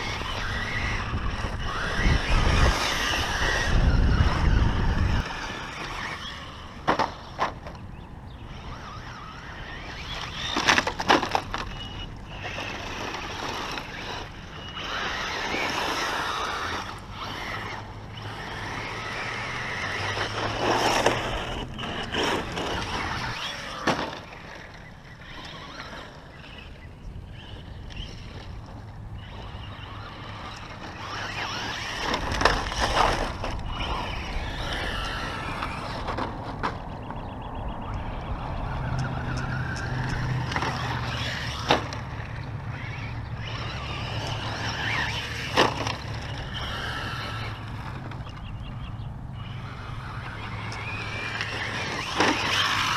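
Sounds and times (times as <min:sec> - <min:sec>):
wind rumble on microphone: 0:00.0 - 0:23.8, 0:25.0 - 0:45.3
electric motor whining: 0:00.0 - 0:52.9.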